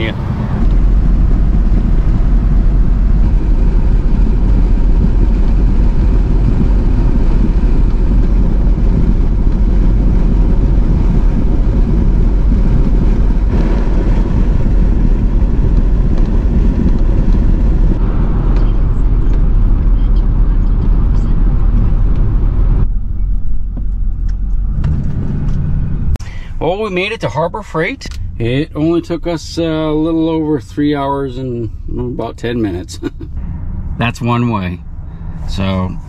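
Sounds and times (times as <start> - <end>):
road and engine rumble: 0.0 - 36.0.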